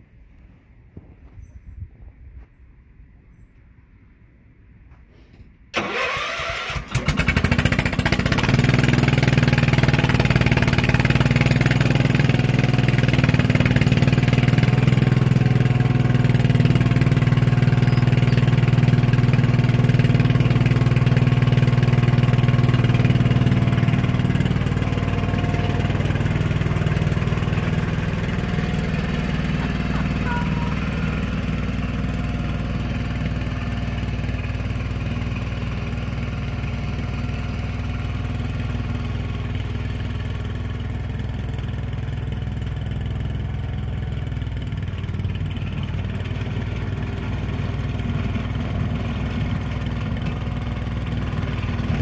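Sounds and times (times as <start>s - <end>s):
tracked vehicle engine running: 5.8s - 52.0s.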